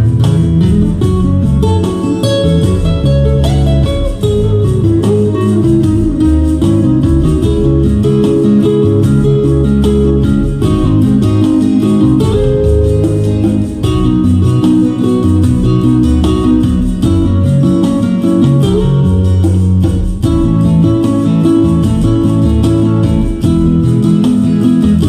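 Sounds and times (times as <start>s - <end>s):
guitar-led instrumental music: 0.0s - 25.0s.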